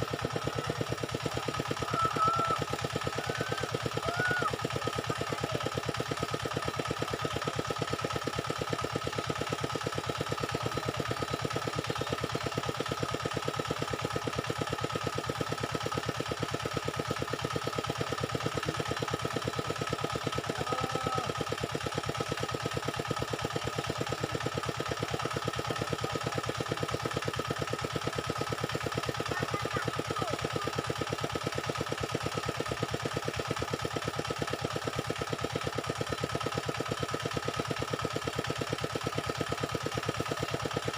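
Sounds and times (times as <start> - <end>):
small engine idling: 0.0 - 40.9.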